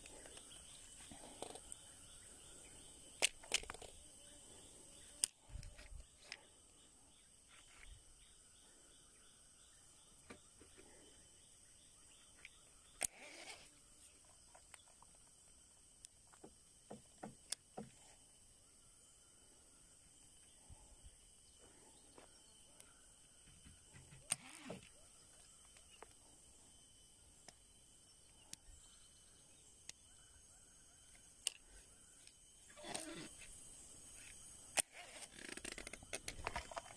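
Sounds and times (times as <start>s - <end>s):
high-pitched insect hiss: 0.0s - 36.9s.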